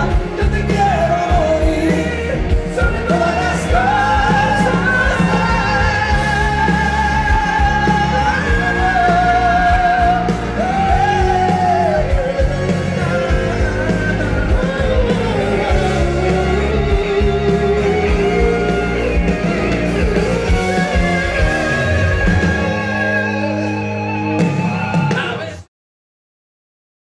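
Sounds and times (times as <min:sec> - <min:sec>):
men singing: 0:00.0 - 0:24.3
live pop-rock band: 0:00.0 - 0:25.7.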